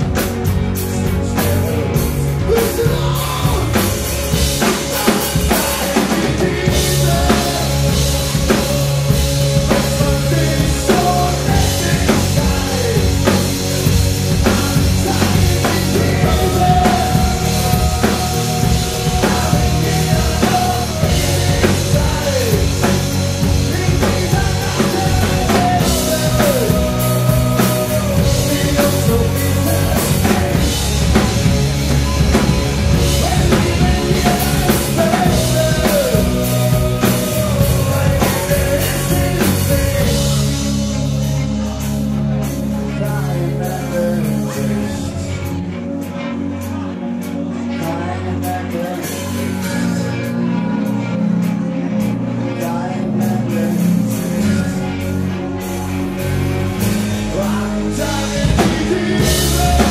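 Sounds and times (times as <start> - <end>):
drum kit beat: 0.0 - 44.6, 55.6 - 59.9
bass guitar: 0.0 - 59.9
electric guitar: 0.0 - 59.9.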